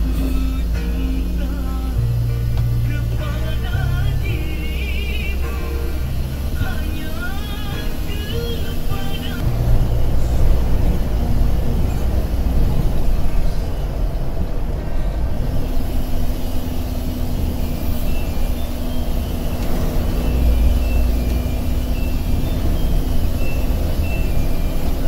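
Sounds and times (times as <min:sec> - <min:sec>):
bus engine and road rumble: 0:00.0 - 0:25.0
thin steady hum: 0:00.0 - 0:25.0.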